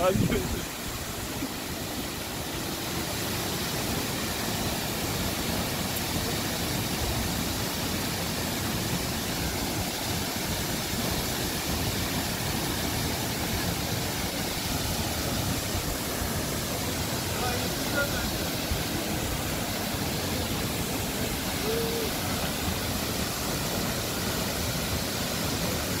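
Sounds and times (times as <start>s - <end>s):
waterfall rushing into pool: 0.0s - 26.0s.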